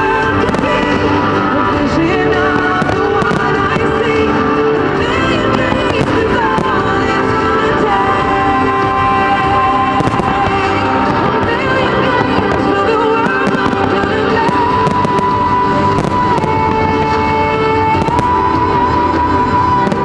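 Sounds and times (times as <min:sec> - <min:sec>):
fireworks bangs: 0:00.0 - 0:20.0
loud music: 0:00.0 - 0:20.0.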